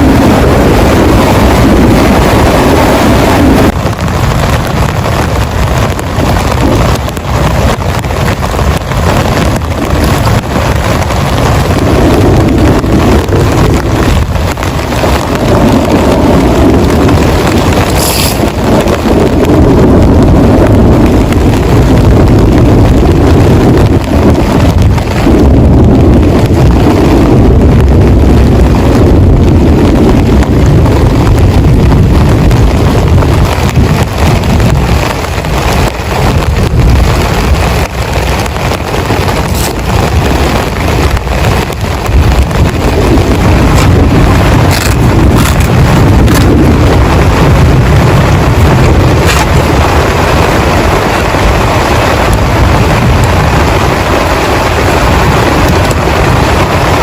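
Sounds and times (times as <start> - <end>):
heavy rain drumming on a tent: 0.0 - 57.0.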